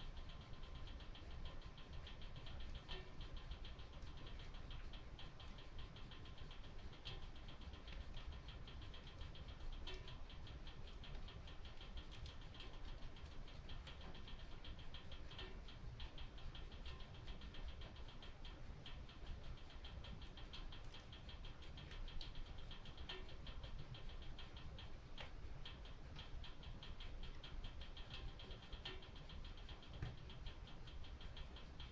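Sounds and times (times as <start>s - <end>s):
low steady rumble: 0.0s - 31.9s
wood fire crackling: 0.0s - 31.9s.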